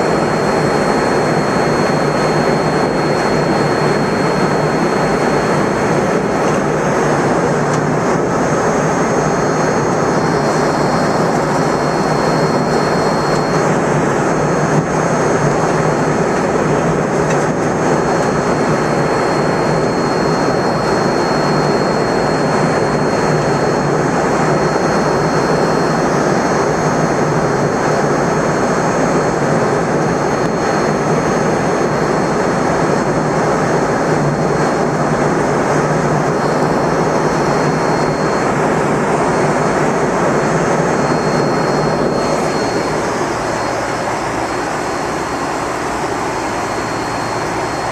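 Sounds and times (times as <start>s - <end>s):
airliner cabin roar: 0.0s - 47.9s
thin high whine: 0.0s - 47.9s.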